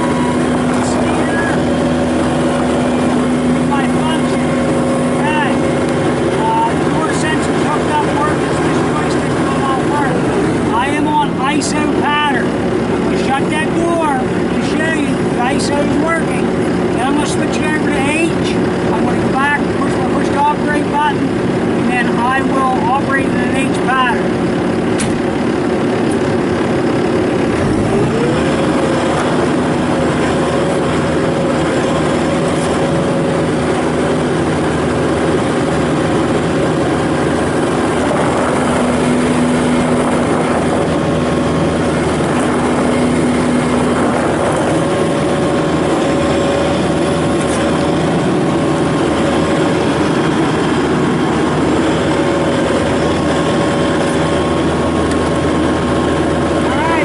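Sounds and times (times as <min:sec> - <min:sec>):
hydraulic whine: 0:00.0 - 0:57.0
loader diesel engine running: 0:00.0 - 0:57.0.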